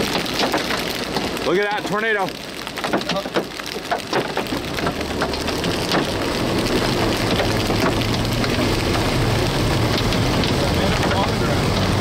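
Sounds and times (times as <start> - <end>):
car engine and road rumble: 0.0 - 12.0
rain ticking on a car: 0.0 - 12.0.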